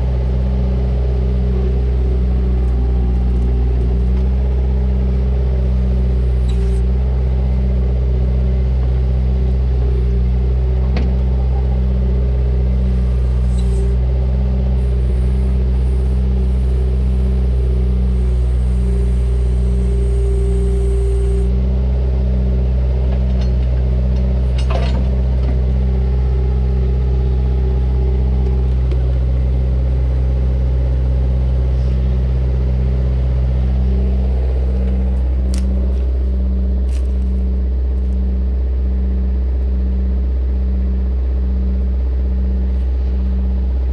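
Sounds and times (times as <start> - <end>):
diesel engine pulsing drone: 0.0 - 43.9.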